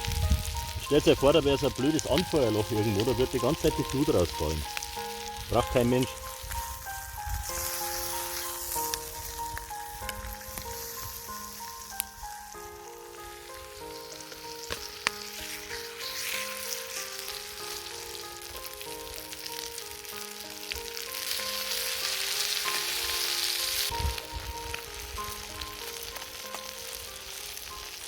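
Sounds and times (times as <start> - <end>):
food sizzling in a pan: 0.0 - 28.0
simple background melody: 0.0 - 28.0.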